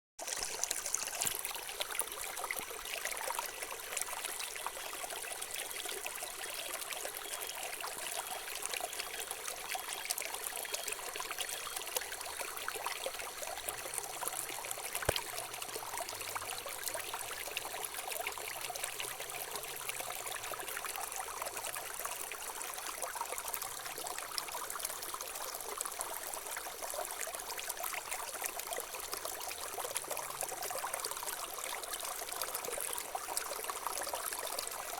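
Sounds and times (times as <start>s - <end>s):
water trickling and splashing: 0.2s - 34.9s.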